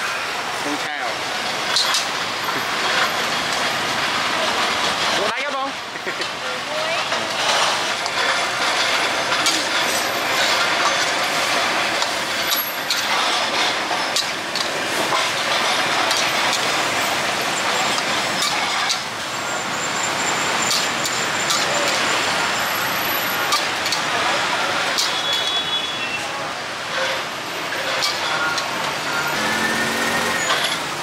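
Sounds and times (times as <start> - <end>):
street traffic: 0.0 - 31.0.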